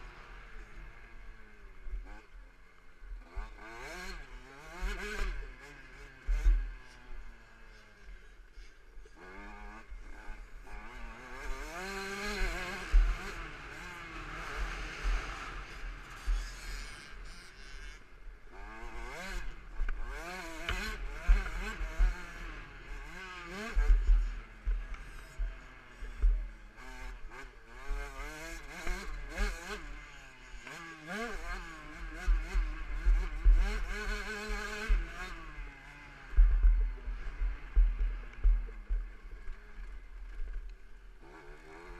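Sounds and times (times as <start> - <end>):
motocross engine revving: 3.2 - 8.1, 9.0 - 41.9.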